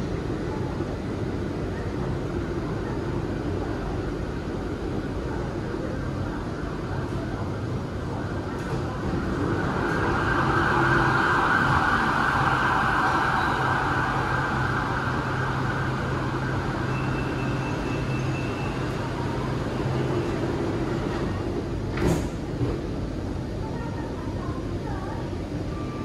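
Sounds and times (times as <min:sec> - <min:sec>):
train car hum and hiss: 0:00.0 - 0:26.0.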